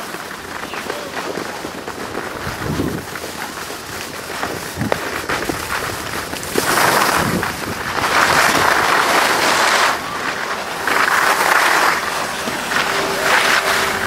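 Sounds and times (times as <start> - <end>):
skis sliding over snow: 0.0 - 14.0.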